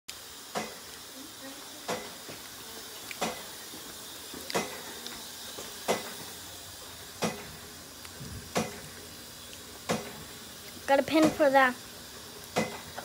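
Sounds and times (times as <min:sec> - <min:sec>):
steady hiss: 0:00.1 - 0:13.0.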